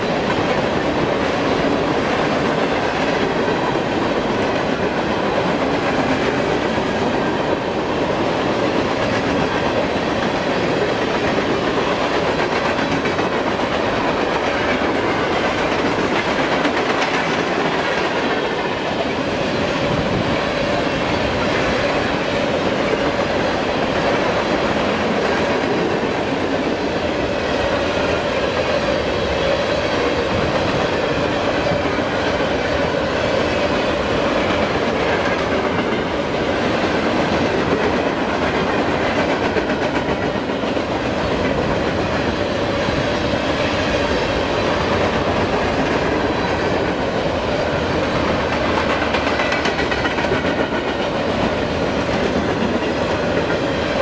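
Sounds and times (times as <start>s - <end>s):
steel train wheels on rails: 0.0s - 54.0s.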